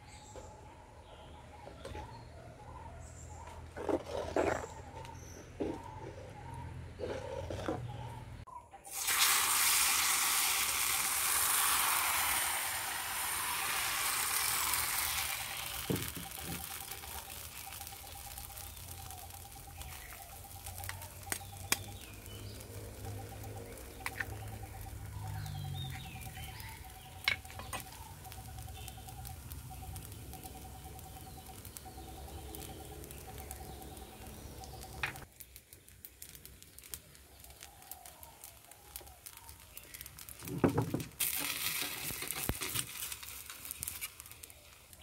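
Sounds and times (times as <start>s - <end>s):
batter sizzling in a pan: 8.9s - 45.0s.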